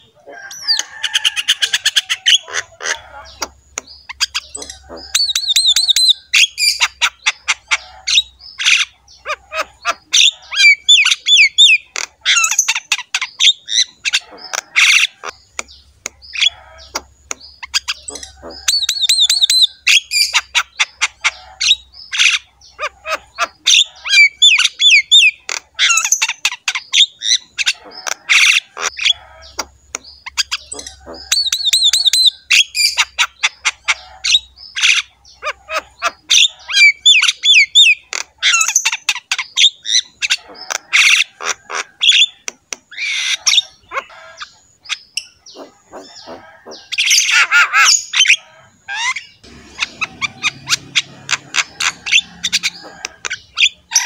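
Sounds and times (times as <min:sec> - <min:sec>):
bird singing chattering song: 0:00.0 - 0:54.0.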